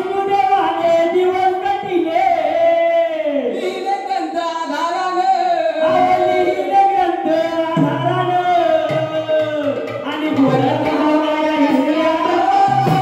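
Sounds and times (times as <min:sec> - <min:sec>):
folk singer singing slow melody: 0:00.0 - 0:13.0.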